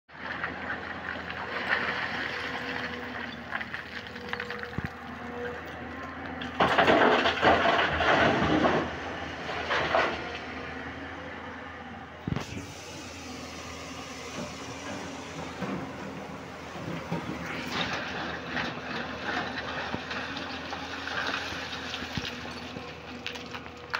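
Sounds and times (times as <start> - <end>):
excavator diesel engine running: 0.1 - 23.9.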